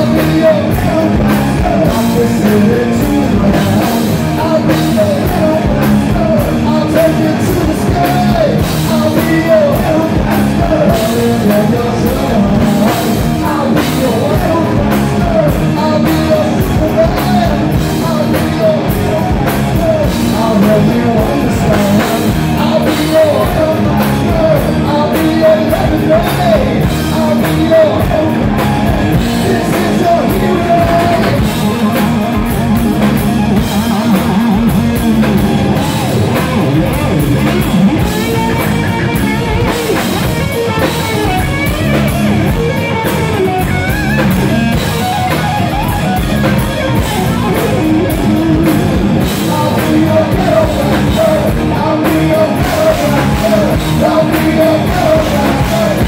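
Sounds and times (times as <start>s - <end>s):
hard rock band playing live: 0.0s - 56.0s
person singing lead vocal: 0.0s - 56.0s.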